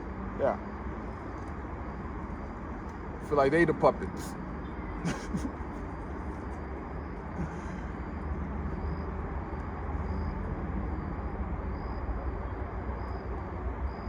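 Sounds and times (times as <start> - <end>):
low rumble with hiss: 0.0 - 14.0.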